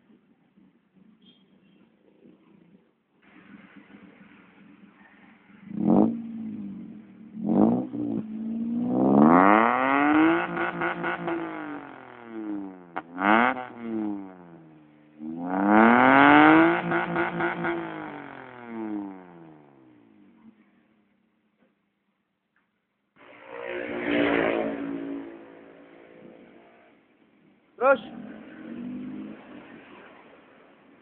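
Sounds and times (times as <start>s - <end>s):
car engine revving: 3.3s - 20.8s, 23.2s - 31.0s.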